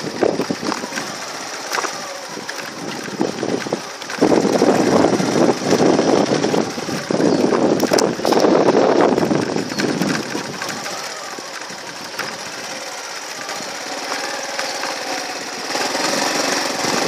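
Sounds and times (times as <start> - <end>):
vehicle running and rattling: 0.0 - 17.0.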